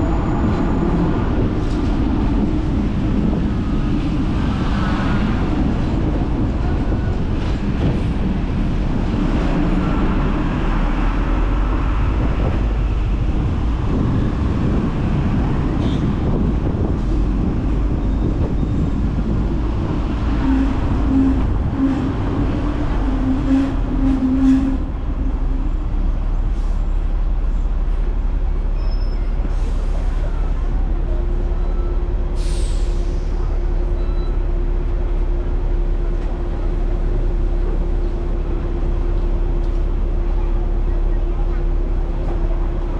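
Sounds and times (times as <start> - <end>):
tram rumbling on rails: 0.0 - 42.9.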